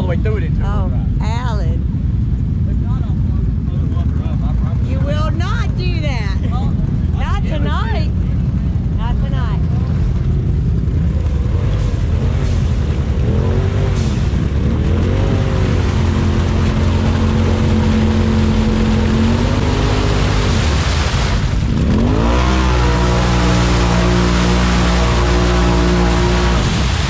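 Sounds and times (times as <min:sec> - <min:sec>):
utility vehicle engine revving: 0:00.0 - 0:27.0
tires spinning in mud: 0:03.4 - 0:27.0.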